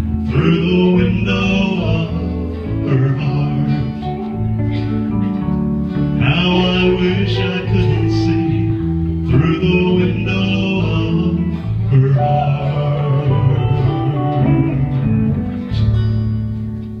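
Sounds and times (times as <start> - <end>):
guitar-led song with bass: 0.0 - 17.0.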